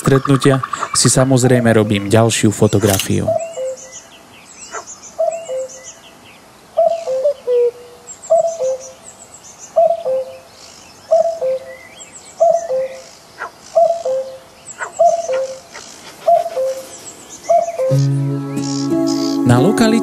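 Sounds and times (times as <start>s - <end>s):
cuckoo calling: 0.0s - 4.0s, 4.7s - 5.9s, 6.8s - 9.0s, 9.7s - 10.5s, 11.1s - 20.0s
songbirds twittering faintly: 0.0s - 19.5s.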